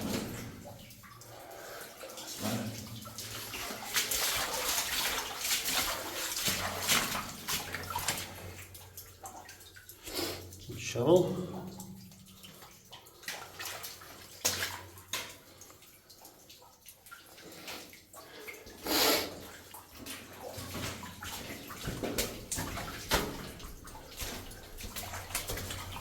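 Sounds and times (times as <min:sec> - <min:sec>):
water splashing: 0:00.0 - 0:26.0.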